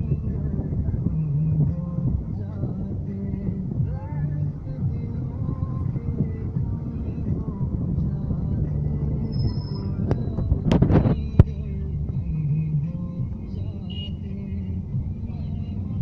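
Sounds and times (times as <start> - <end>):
car engine and road rumble: 0.0 - 16.0
music playing: 0.0 - 16.0.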